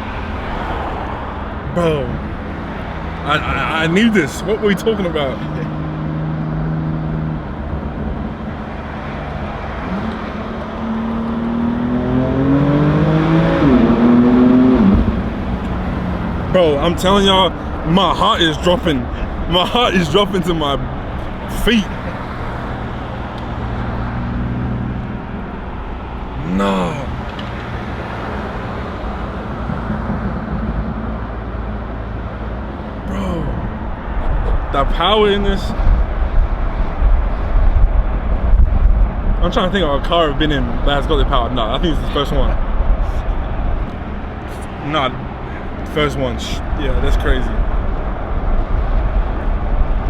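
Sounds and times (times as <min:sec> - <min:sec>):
car engine accelerating hard: 0:00.0 - 0:50.0.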